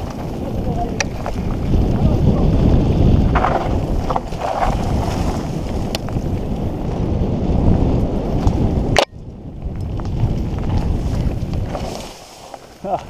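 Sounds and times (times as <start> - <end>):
mountain bike rumbling on dirt trail: 0.0 - 13.0
wind rushing over microphone: 0.0 - 13.0.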